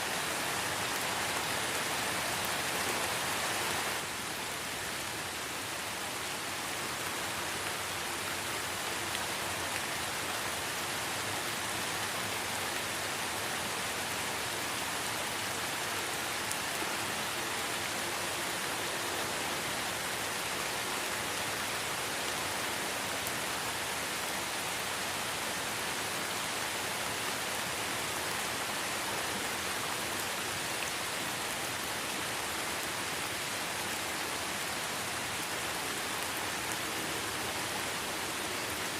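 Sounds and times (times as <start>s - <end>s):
light rain in a forest: 0.0s - 38.9s.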